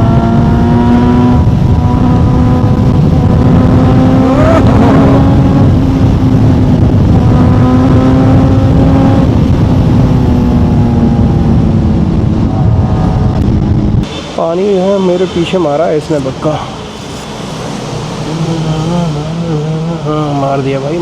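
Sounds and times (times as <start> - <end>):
motorcycle engine cruising: 0.0 - 14.1, 16.1 - 21.0
road and wind noise: 0.0 - 21.0.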